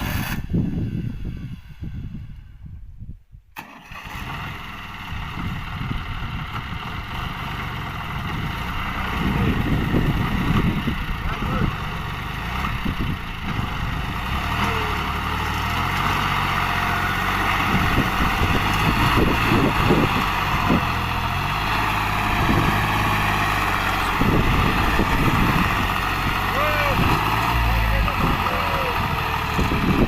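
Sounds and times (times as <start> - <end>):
tractor diesel engine running: 3.6 - 30.0.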